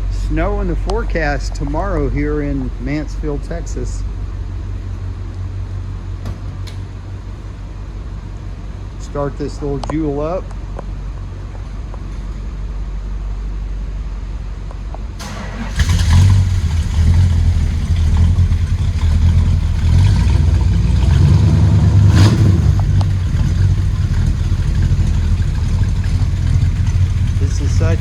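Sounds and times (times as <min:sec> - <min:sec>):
car engine starting and rumbling: 0:00.0 - 0:28.0.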